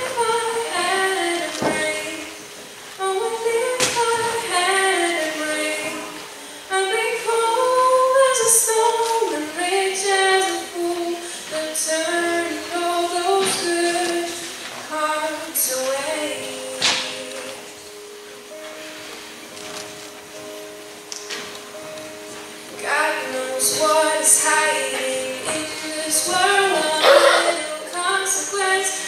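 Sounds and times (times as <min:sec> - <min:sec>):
woman singing into a microphone: 0:00.0 - 0:17.9, 0:22.7 - 0:29.0.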